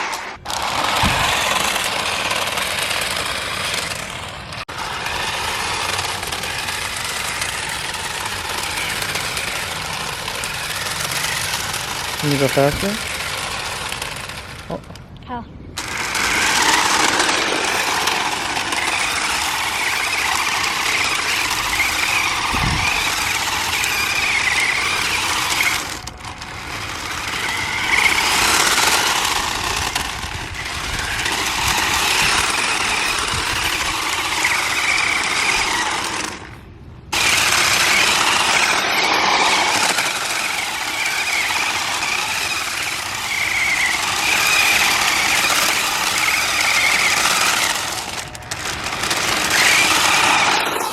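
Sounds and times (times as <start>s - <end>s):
electric motor whining: 0.0s - 15.0s, 15.8s - 50.9s.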